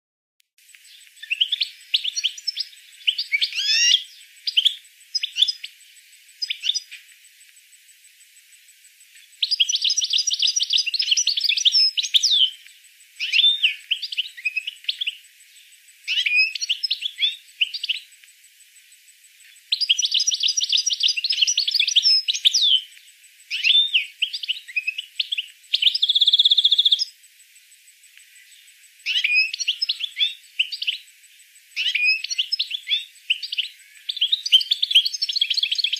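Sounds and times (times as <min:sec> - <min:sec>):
songbird singing: 0:00.6 - 0:35.9.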